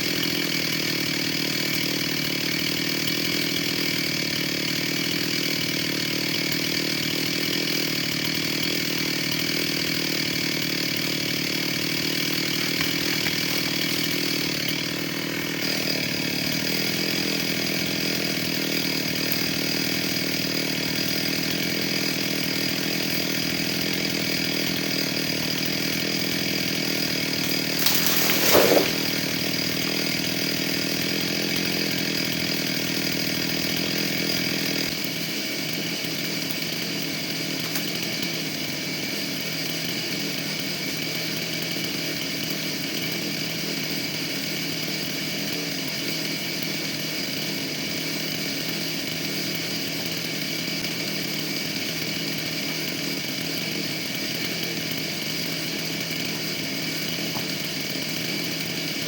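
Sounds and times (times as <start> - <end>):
chainsaw engine idling: 0.0 - 59.0
chainsaw revving: 0.0 - 59.0.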